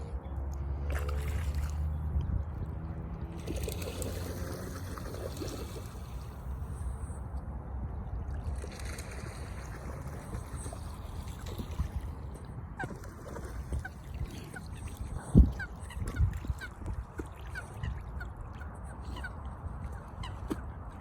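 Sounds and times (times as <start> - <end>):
waterfowl splashing and gurgling: 0.8 - 2.0, 3.3 - 7.1, 8.4 - 21.0.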